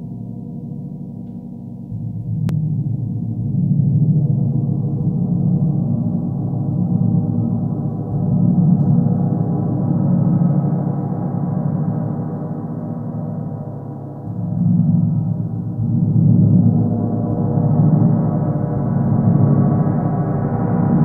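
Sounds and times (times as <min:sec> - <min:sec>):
gong played with soft mallet: 0:00.0 - 0:21.0.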